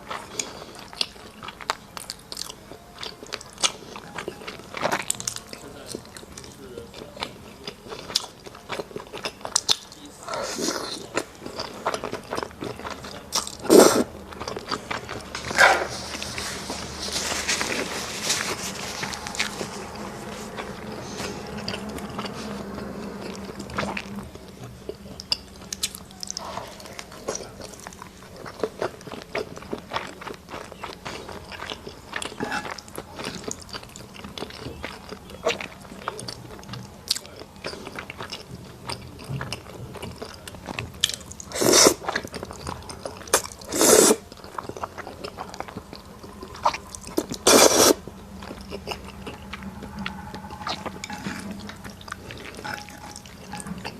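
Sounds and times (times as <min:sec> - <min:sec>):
person chewing and biting: 0:00.0 - 0:53.9.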